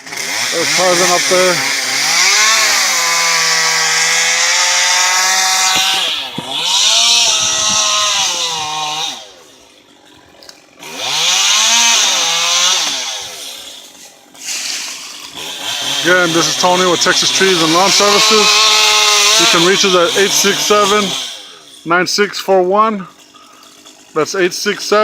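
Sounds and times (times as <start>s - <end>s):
chainsaw cutting tree limb: 0.0s - 25.0s.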